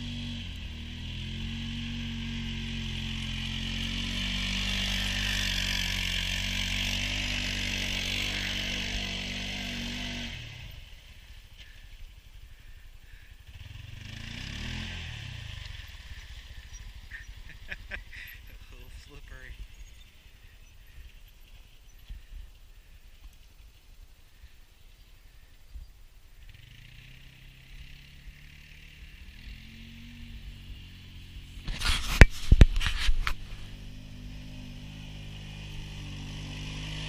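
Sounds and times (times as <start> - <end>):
engine running hard: 0.0 - 23.0, 26.4 - 37.0.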